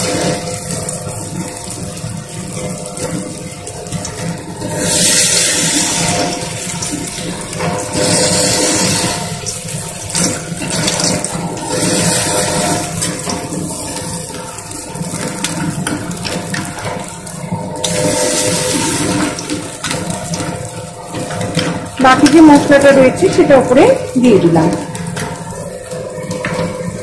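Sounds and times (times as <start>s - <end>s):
fritters sizzling in hot oil: 0.0s - 27.0s.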